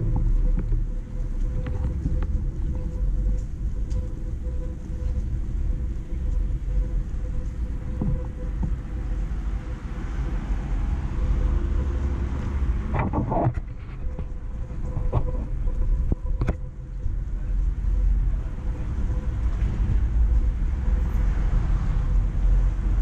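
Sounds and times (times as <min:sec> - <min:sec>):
street traffic rumble: 0:00.0 - 0:23.0
thin continuous hum: 0:00.0 - 0:23.0.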